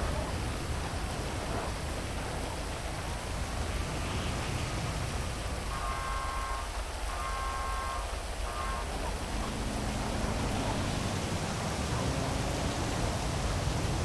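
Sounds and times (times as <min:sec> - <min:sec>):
heavy rain hissing: 0:00.0 - 0:14.0
low traffic hum: 0:00.0 - 0:14.0.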